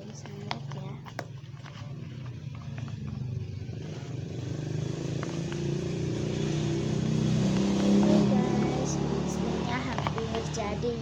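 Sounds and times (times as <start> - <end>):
vehicle engine approaching: 1.8 - 11.0.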